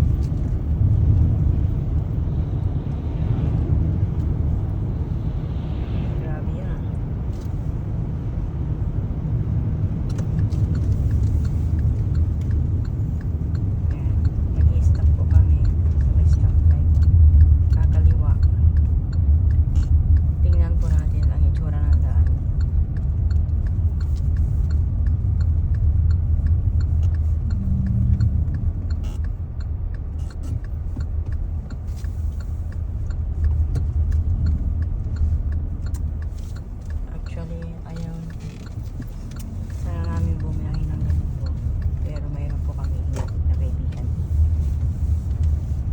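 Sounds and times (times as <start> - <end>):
faint light ticks: 0.0 - 4.6, 7.3 - 45.9
car engine and tyre noise: 0.0 - 45.9.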